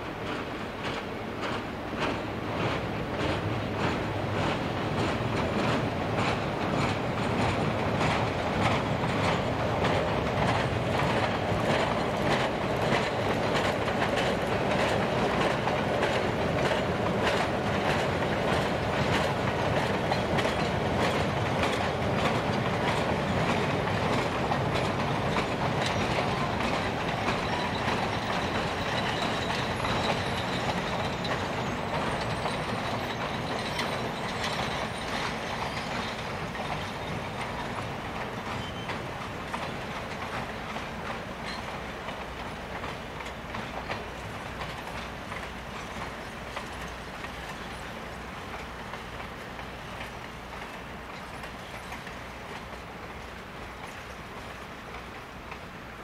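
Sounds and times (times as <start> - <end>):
train wheels rumbling on rail: 0.0 - 56.0
wheels clickety-clack over rail joints: 0.0 - 56.0.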